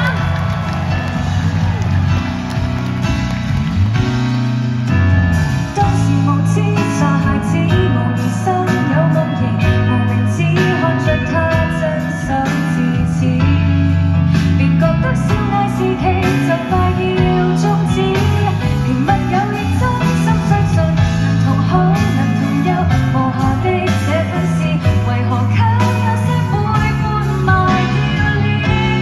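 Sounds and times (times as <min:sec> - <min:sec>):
live pop band over loudspeakers: 0:00.0 - 0:29.0.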